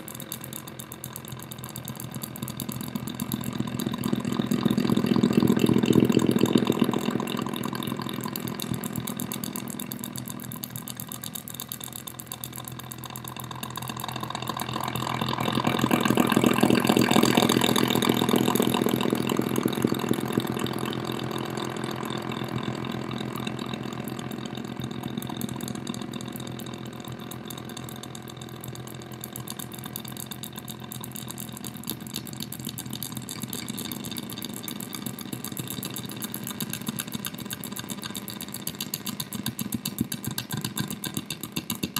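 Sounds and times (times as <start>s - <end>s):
steady low hum: 0.0s - 41.0s
rapid pulsing electronic buzz: 0.0s - 41.5s.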